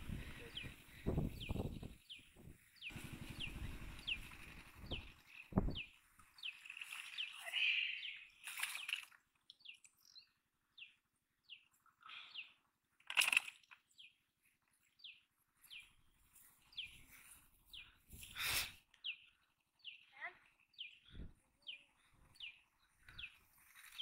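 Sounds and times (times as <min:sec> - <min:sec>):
bird chirping: 0:00.0 - 0:12.7, 0:13.6 - 0:24.0.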